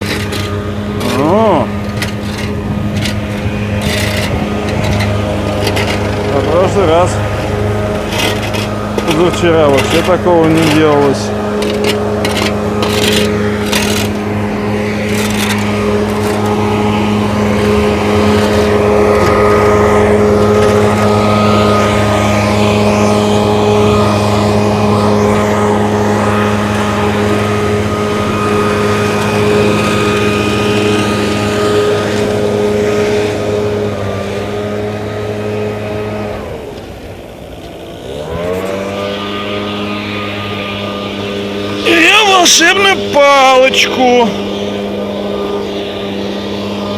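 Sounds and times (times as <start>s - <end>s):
engine running at high revs: 0.0s - 46.9s.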